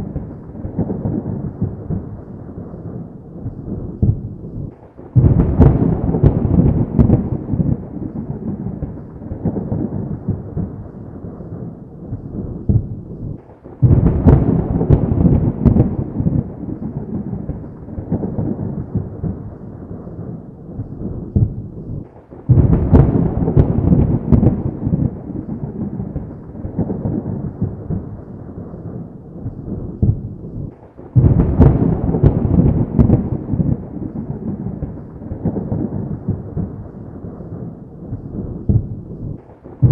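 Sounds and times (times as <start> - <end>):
thunder cracking and rumbling: 0.0 - 39.9.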